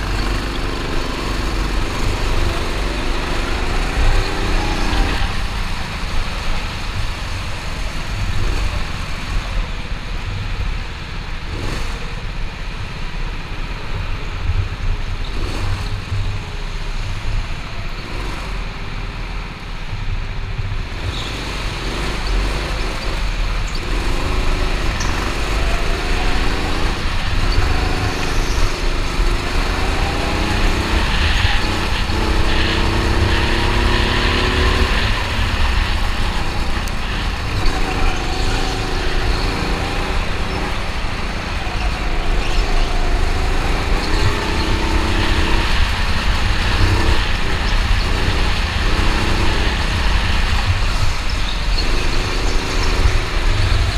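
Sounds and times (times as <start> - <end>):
go-kart engine revving: 0.0 - 19.8, 20.8 - 53.9.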